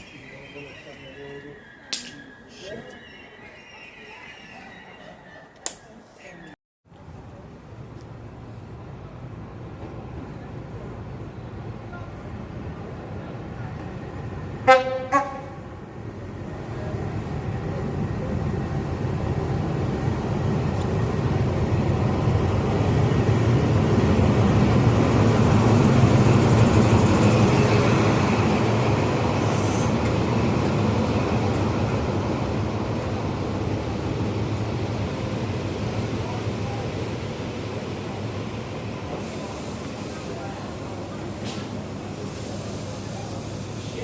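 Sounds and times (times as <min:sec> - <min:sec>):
train passing through station: 0:00.0 - 0:44.0.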